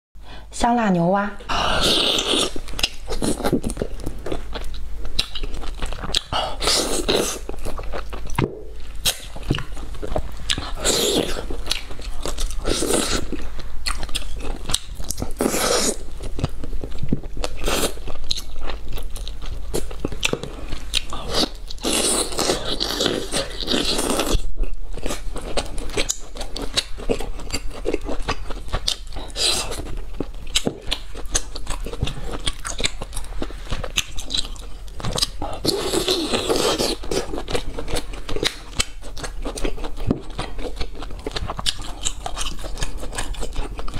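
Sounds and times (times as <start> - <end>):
woman biting and chewing: 1.6 - 43.9.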